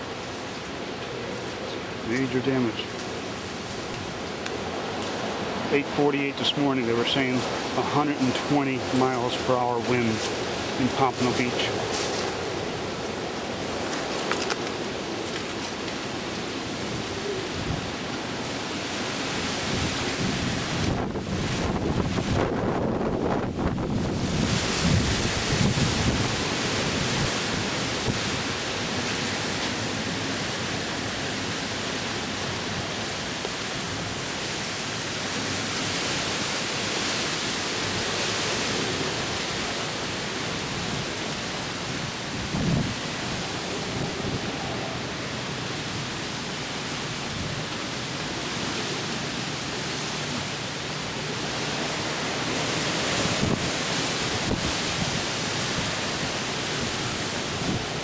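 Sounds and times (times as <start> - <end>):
hurricane wind and rain: 0.0 - 58.0
gusts buffeting microphone: 1.2 - 29.6, 37.7 - 48.7, 49.6 - 58.0.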